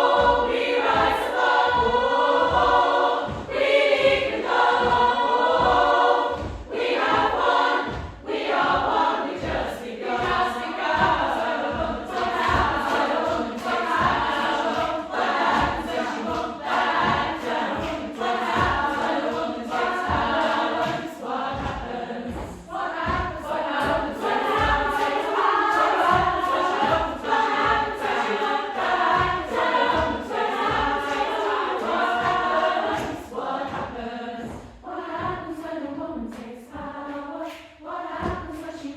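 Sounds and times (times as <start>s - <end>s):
regular low thump: 0.0s - 37.0s
choir singing in parts: 0.0s - 38.9s.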